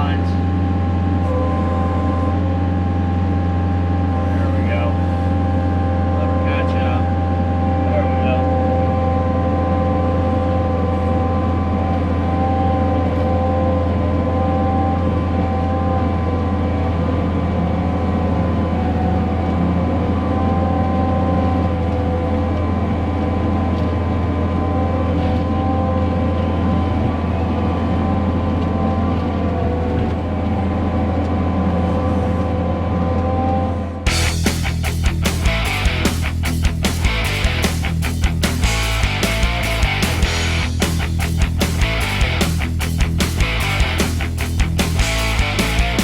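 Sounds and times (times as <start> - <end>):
excavator diesel engine under load: 0.0 - 46.0
hydraulic brush cutter whine: 0.0 - 46.0.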